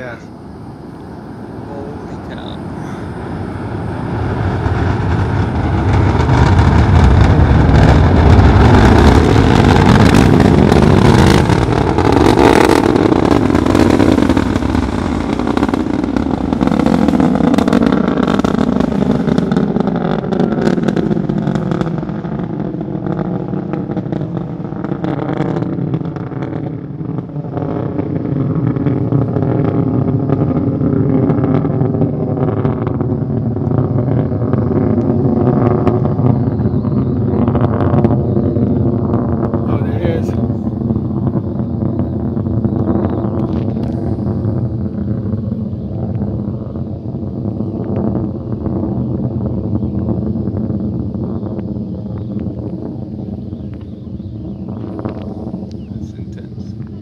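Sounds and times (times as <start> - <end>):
distant rocket engine rumble: 0.0 - 57.0.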